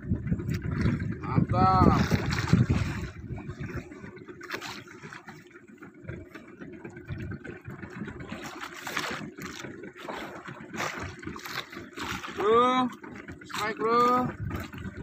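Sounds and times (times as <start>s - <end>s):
water slapping against boat hull: 0.0s - 15.0s.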